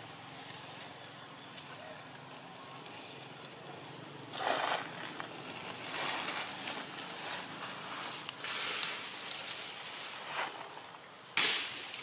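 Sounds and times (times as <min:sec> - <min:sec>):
dry leaves rustling: 0:00.0 - 0:12.0.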